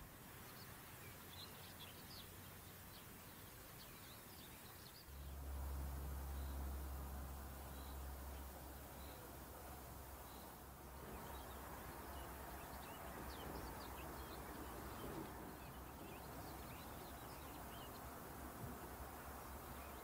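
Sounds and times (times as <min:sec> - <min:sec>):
distant small birds chirping: 0:00.0 - 0:20.0
low hiss and rumble: 0:00.0 - 0:20.0.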